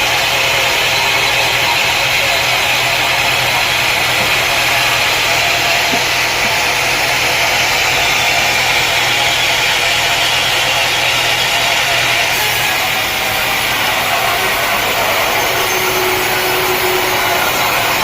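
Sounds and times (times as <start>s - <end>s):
sawmill machinery running: 0.0s - 18.0s.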